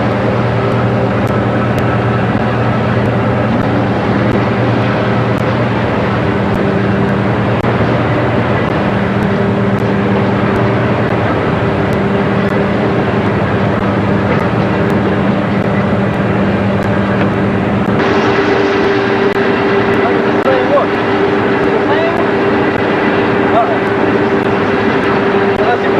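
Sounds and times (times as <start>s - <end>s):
boat engine humming: 0.0s - 25.9s
rushing noise: 0.0s - 25.9s.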